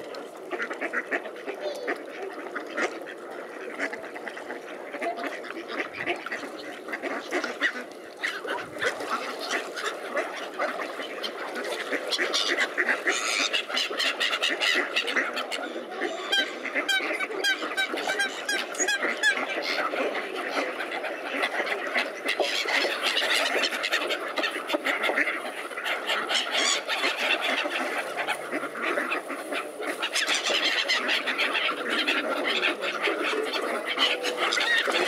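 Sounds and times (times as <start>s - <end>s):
ducks and gulls calling: 0.0s - 35.0s.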